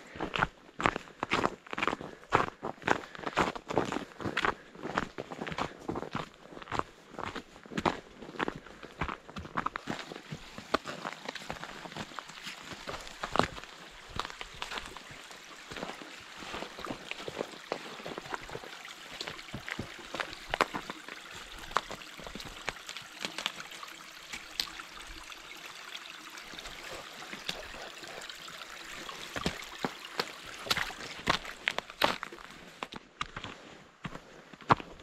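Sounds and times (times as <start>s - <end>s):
stream running over rocks: 0.0s - 33.5s
footsteps on snow and ice: 0.2s - 25.4s, 26.8s - 35.0s.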